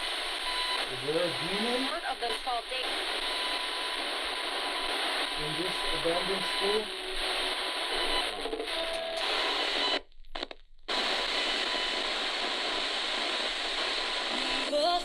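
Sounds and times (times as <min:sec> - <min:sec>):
radio static hiss: 0:00.0 - 0:15.0
snatches of radio stations: 0:00.0 - 0:15.0.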